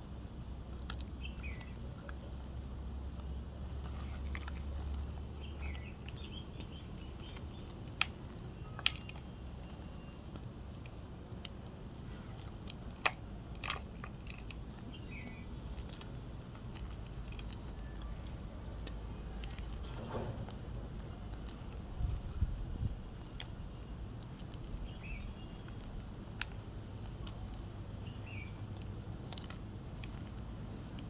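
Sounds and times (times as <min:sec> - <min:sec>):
chalk crunching: 0:00.0 - 0:31.0.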